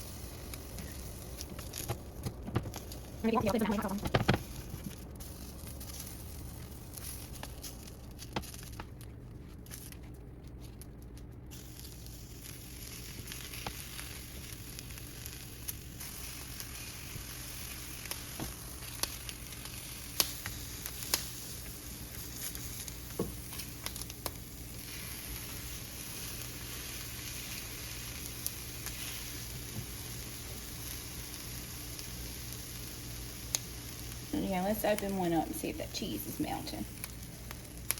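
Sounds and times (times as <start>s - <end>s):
quesadillas sizzling on griddle: 0.0s - 37.9s.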